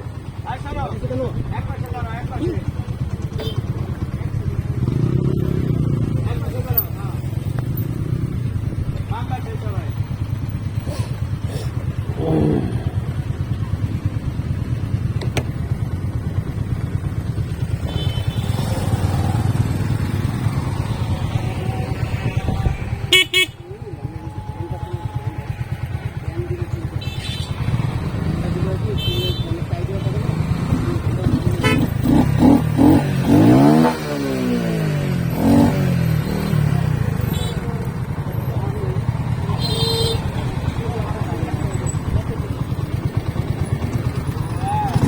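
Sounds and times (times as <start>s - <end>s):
motorcycle engine rumbling: 0.0s - 45.0s.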